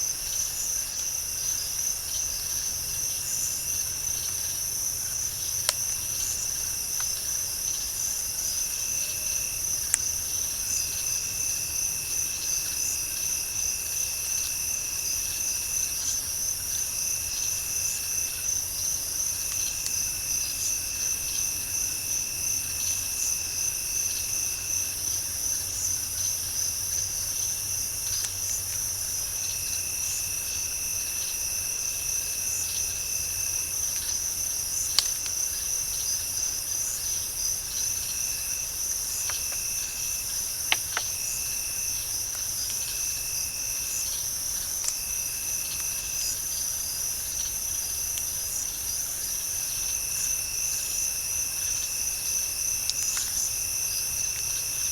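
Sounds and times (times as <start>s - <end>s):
lower insect trill: 0.0s - 54.9s
high pulsing insect trill: 0.1s - 54.9s.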